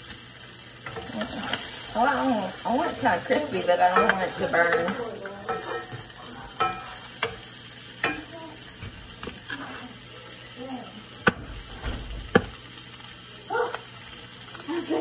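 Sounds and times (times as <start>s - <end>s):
sausage sizzling in a skillet: 0.0s - 15.0s.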